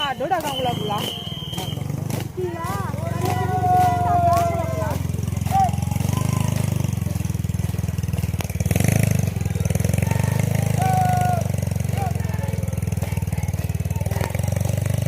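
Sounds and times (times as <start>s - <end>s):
engine running: 0.0s - 15.0s
faint voices calling: 0.0s - 15.0s.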